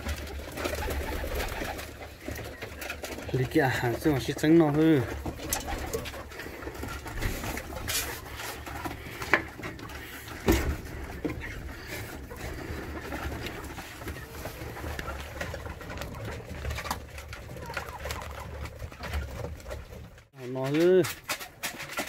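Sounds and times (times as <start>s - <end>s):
pigeons cooing: 0.0s - 19.6s.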